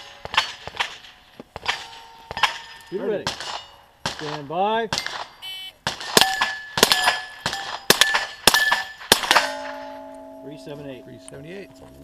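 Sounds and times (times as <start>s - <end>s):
steel plates clanging and ringing: 0.0s - 4.0s, 6.0s - 12.0s
rifle shots: 0.0s - 10.0s.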